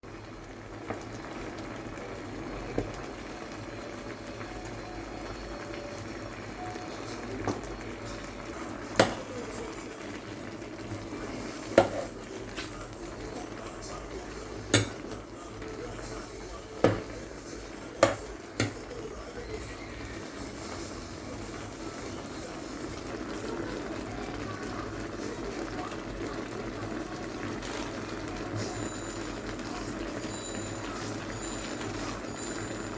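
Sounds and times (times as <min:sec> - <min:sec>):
food sizzling in a hot pan: 0:00.1 - 0:32.9.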